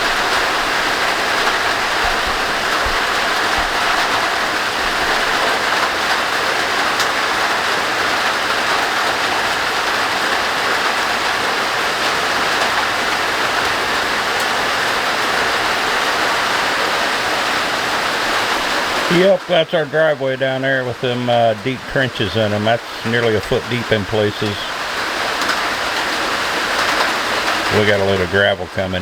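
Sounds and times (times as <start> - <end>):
heavy rain: 0.0 - 29.0.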